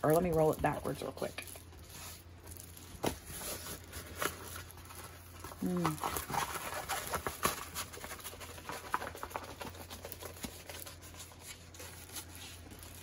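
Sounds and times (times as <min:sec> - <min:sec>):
canvas and plastic cover rustling: 0:00.0 - 0:13.0.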